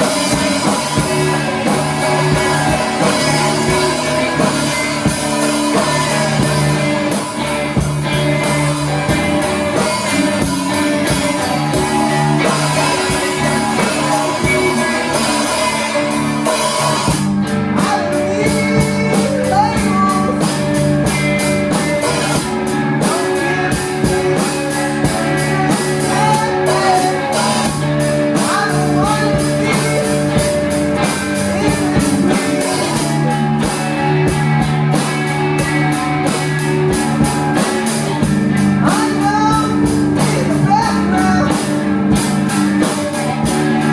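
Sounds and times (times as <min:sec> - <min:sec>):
drum kit beat with cymbals: 0:00.0 - 0:43.9
sustained guitar notes: 0:00.0 - 0:43.9.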